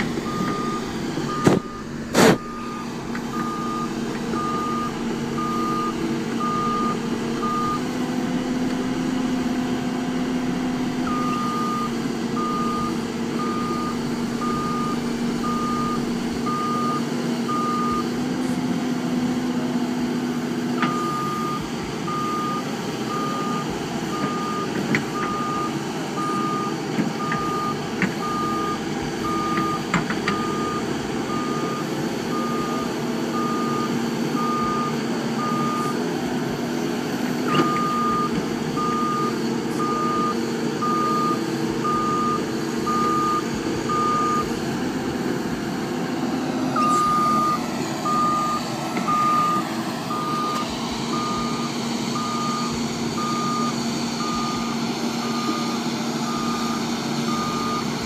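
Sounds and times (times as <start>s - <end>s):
reversing alarm beeping: 0.0s - 19.5s, 20.6s - 36.1s, 37.0s - 58.0s
machine engine running: 0.0s - 58.0s.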